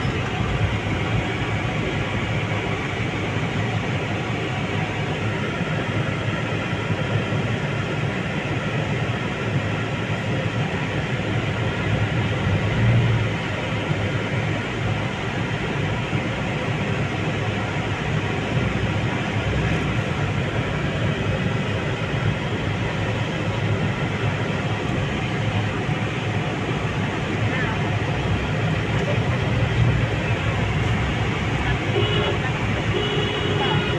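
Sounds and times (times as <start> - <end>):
vehicle engine rumble: 0.0 - 33.9.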